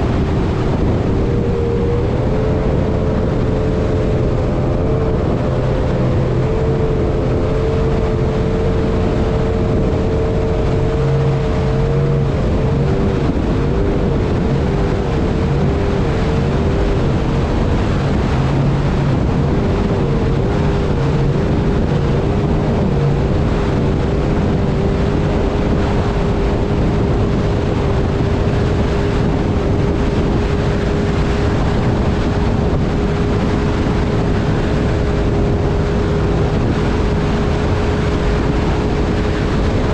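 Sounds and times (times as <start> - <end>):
outboard motor running: 0.0 - 39.9
water rushing: 0.0 - 39.9
wind: 0.0 - 39.9.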